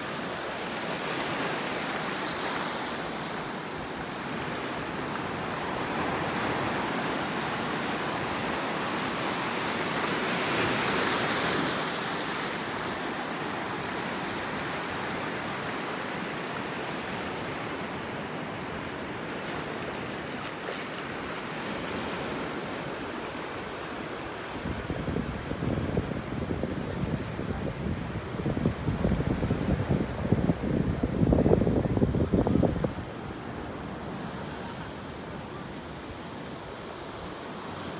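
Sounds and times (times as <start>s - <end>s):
ocean surf washing over rocks: 0.0s - 37.9s.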